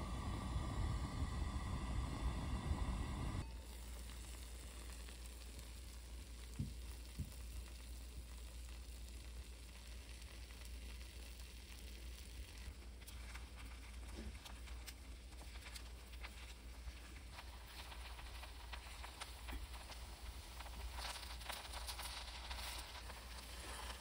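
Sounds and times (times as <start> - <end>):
rice sizzling in a pot: 0.0 - 24.0.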